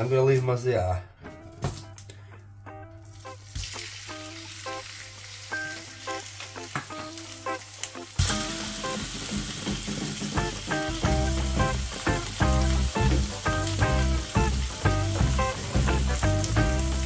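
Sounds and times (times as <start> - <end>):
burger patties sizzling in oil: 3.0 - 17.0.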